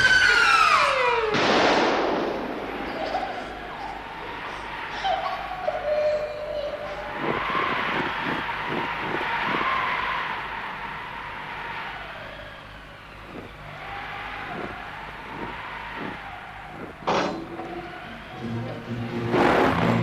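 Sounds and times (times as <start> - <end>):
howling blizzard wind: 0.0 - 20.0.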